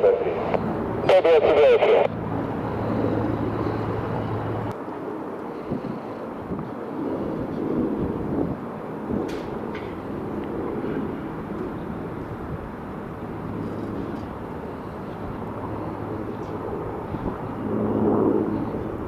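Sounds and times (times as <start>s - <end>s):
helicopter turbine and rotor noise: 0.0s - 19.0s.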